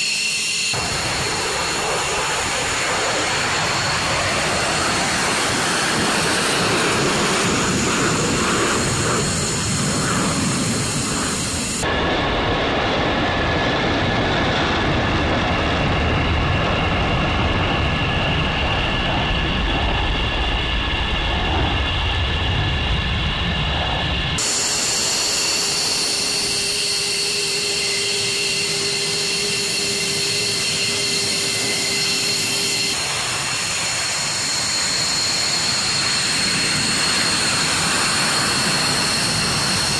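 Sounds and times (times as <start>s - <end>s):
fighter jet engines roaring: 0.0s - 39.9s
high turbine whine: 0.0s - 39.9s.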